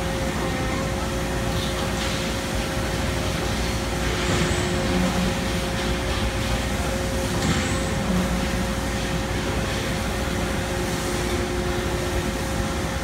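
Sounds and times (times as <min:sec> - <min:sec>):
faint machine whine: 0:00.0 - 0:13.0.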